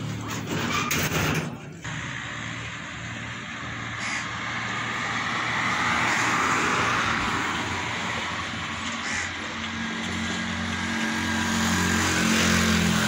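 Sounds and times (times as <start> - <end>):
vehicle engine passing by: 1.8 - 13.0.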